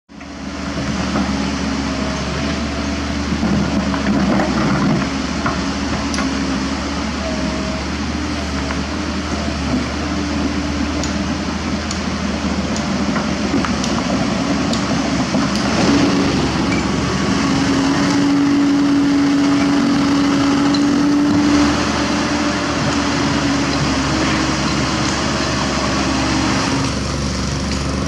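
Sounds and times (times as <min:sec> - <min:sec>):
excavator diesel engine running: 0:00.1 - 0:28.0.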